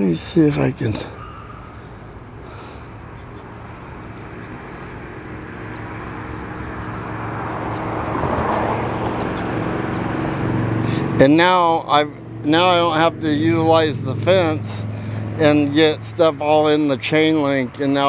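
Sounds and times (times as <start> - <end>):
distant vehicle engine hum: 0.0 - 18.0.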